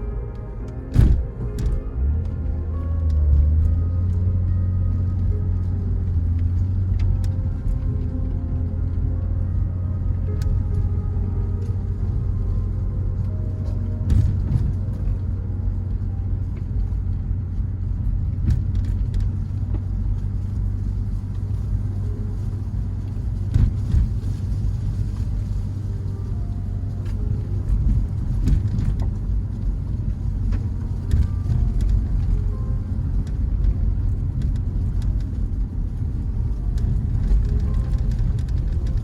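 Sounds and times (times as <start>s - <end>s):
car driving rumble: 0.0s - 39.0s.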